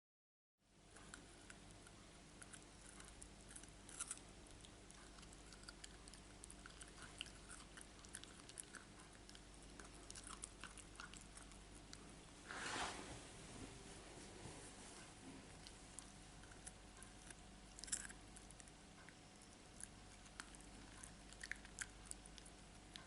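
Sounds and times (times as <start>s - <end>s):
low room hum: 0.6s - 23.0s
puppy chewing: 0.9s - 12.4s, 15.0s - 23.0s.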